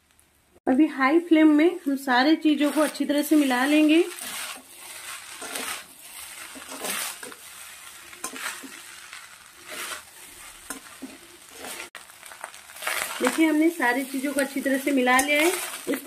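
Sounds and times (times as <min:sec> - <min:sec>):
frying sizzle: 0:00.0 - 0:16.0
spatula scraping a pan: 0:02.3 - 0:16.0.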